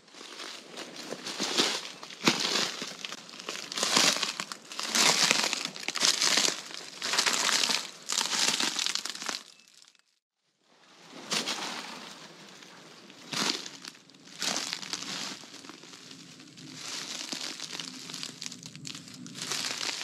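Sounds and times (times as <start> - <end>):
footsteps crunching through dry leaves: 0.0 - 9.9, 11.2 - 20.0.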